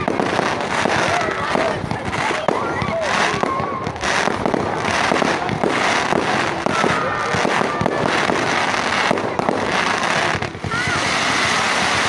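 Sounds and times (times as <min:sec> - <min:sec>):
firework whistle: 0:00.0 - 0:12.0
fireworks crackling and banging: 0:00.0 - 0:12.0.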